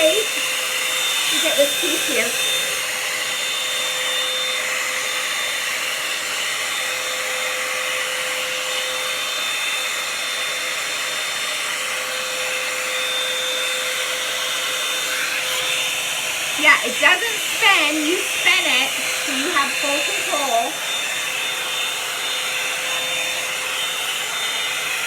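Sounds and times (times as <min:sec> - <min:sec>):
hair dryer blowing air: 0:00.0 - 0:25.0
motor whine: 0:00.0 - 0:25.0.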